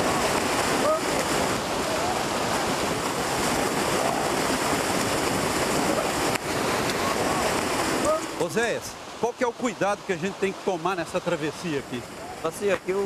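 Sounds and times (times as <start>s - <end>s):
cattle hooves splashing in water: 0.0s - 13.0s.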